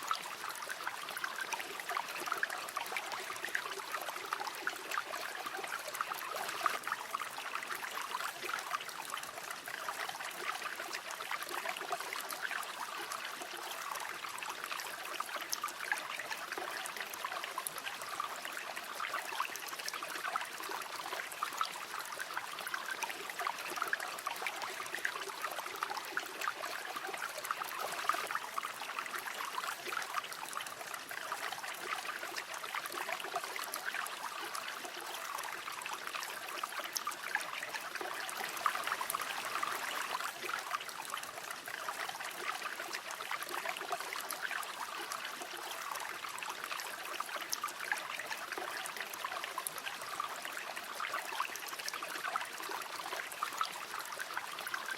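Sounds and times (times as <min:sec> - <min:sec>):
river water babbling over stones: 0:00.0 - 0:54.9.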